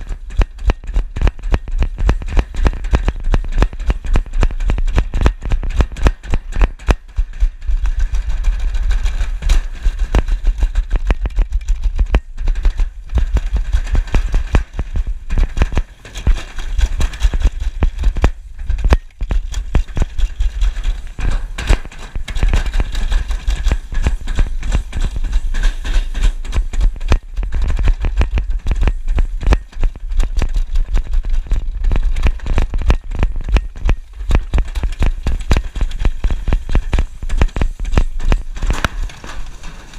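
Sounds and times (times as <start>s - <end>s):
deep rumble: 0.0s - 39.9s
sled rattling in metal trough: 0.0s - 39.9s.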